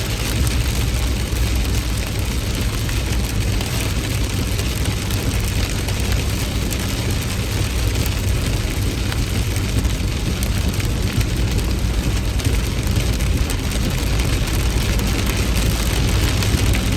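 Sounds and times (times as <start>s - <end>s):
heavy rain hissing: 0.0s - 16.9s
low rumble: 0.0s - 16.9s.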